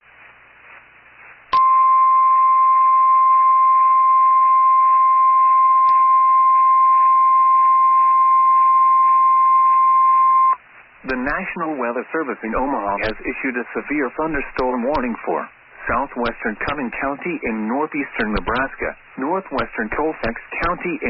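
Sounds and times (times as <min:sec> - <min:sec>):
faint radio static: 0:00.0 - 0:02.5, 0:05.0 - 0:21.0.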